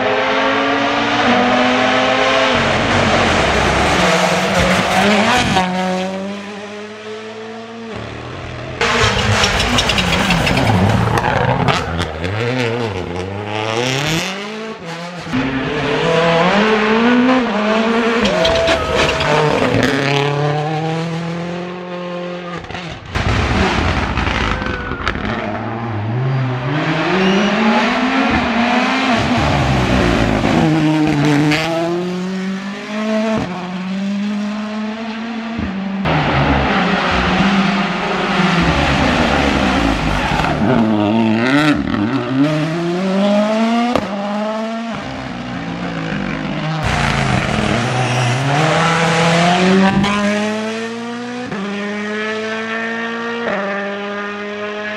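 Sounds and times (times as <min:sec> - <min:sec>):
cars passing: 0:00.0 - 0:54.9
rally car engines revving: 0:00.0 - 0:54.9.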